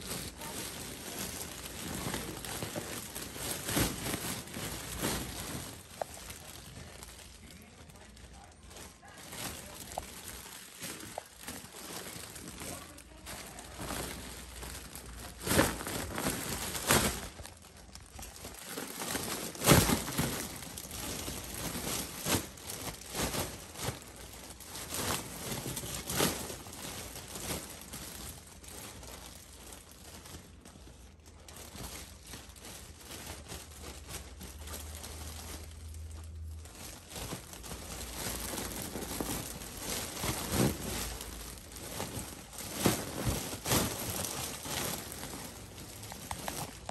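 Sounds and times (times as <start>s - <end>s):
foil balloon crinkling: 0.0s - 46.9s.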